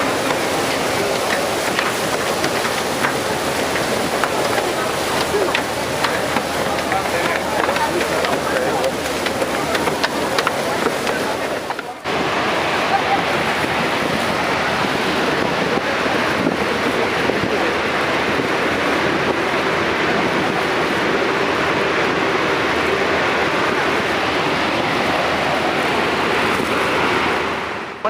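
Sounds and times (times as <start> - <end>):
waterfall roaring: 0.0 - 28.0
wind buffeting microphone: 0.0 - 28.0.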